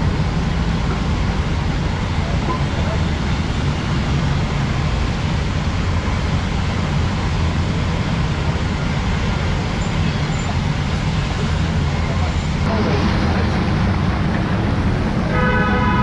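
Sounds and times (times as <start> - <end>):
gas burner roar: 0.0 - 16.0.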